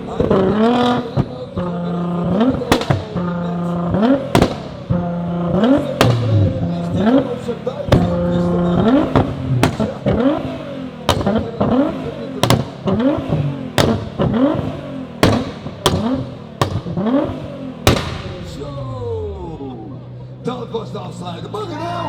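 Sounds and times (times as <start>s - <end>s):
exhaust pops and bangs: 0.0s - 18.8s
sports car engine revving: 0.0s - 22.0s.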